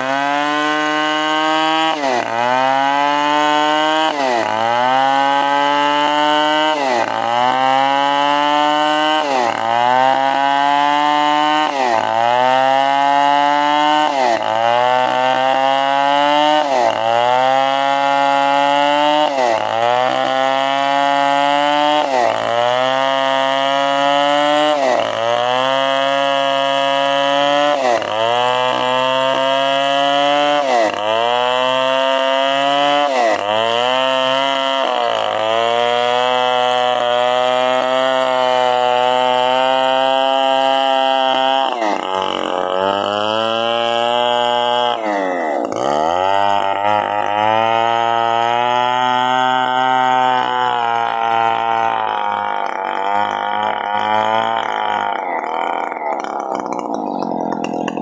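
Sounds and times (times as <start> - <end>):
chainsaw sawing timber: 0.0 - 58.0.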